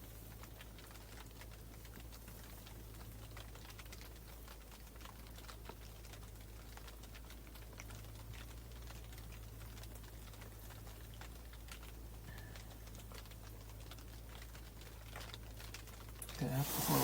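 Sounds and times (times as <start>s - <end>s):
light clicks and patter: 0.0s - 17.0s.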